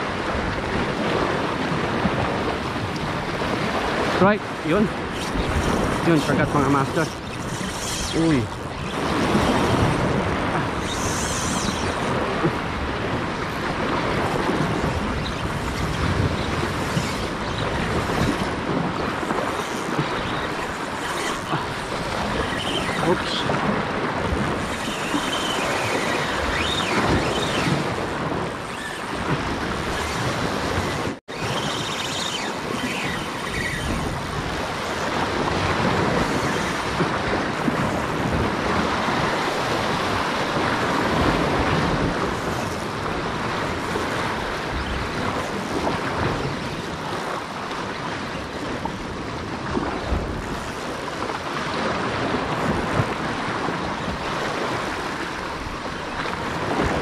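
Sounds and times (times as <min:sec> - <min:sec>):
surf on rocky shore: 0:00.0 - 0:57.0
wind buffeting microphone: 0:00.0 - 0:57.0.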